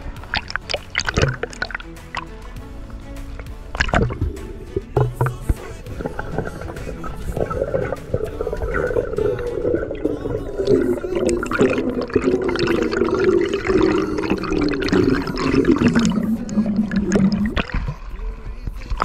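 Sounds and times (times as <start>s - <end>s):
water sloshing and bubbling: 0.0s - 19.0s.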